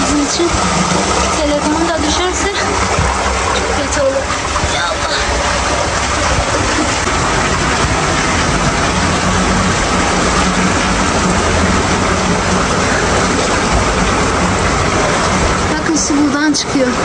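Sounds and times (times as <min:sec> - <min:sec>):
spring water gushing over rocks: 0:00.0 - 0:17.0.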